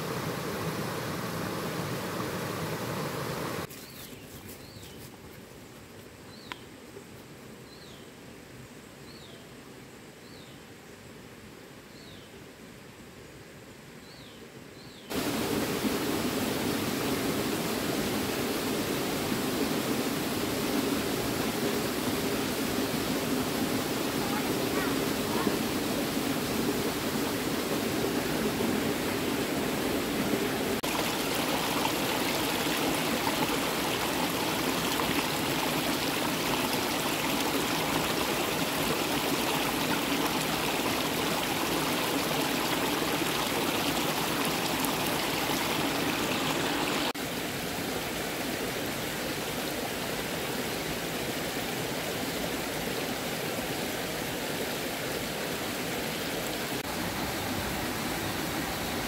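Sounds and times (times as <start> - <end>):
stream water flowing: 0.0 - 3.7, 15.1 - 59.0.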